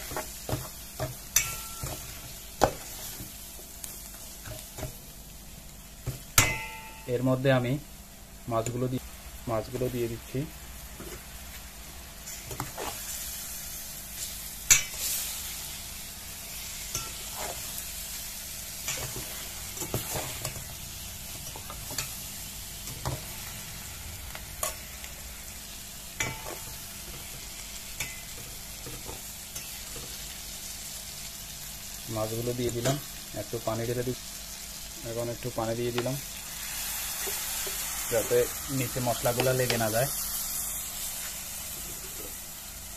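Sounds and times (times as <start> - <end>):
fish sizzling in oil: 0.0 - 42.9.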